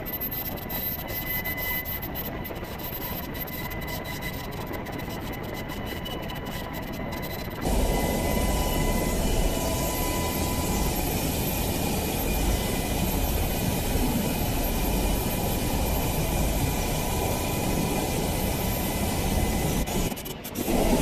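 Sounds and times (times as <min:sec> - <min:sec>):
faint steady whine: 0:00.0 - 0:21.0
helicopter rotor and engine: 0:00.0 - 0:21.0.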